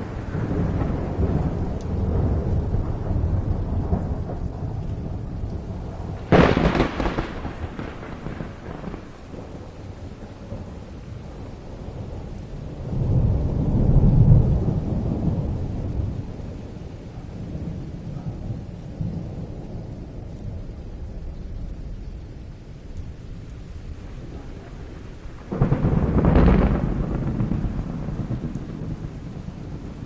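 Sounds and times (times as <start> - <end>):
heavy rain: 0.0 - 30.0
thunder rumbling: 0.0 - 30.0.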